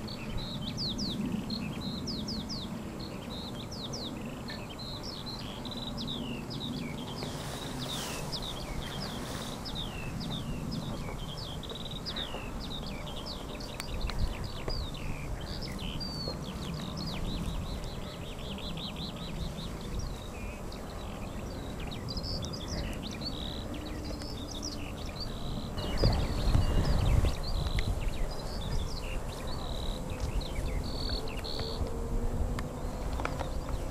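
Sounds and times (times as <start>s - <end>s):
songbirds chorus: 0.0s - 33.9s.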